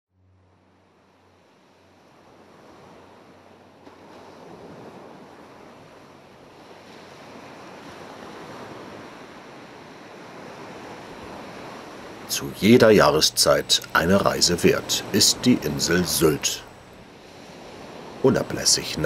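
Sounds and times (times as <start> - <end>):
wind: 0.1 - 19.0
sea surf: 0.3 - 19.0.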